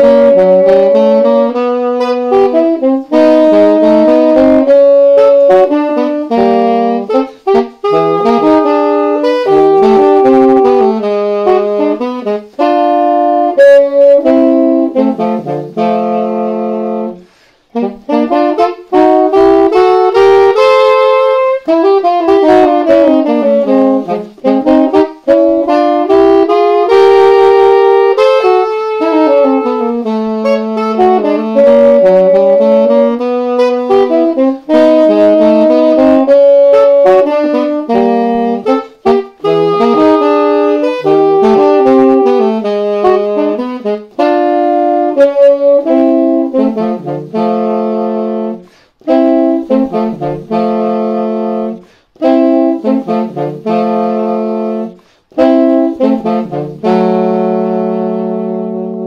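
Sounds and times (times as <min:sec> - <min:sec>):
tenor saxophones playing duet: 0:00.0 - 0:59.0.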